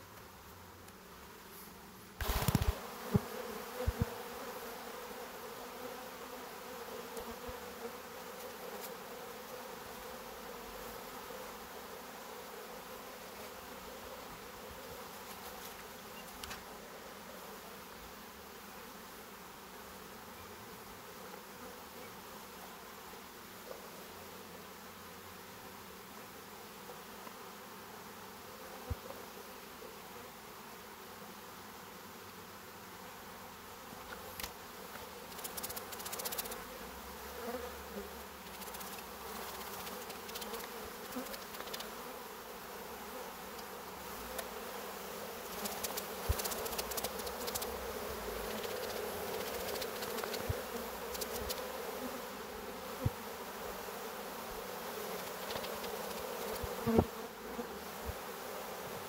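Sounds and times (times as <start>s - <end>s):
honeybees humming: 0.0s - 59.0s.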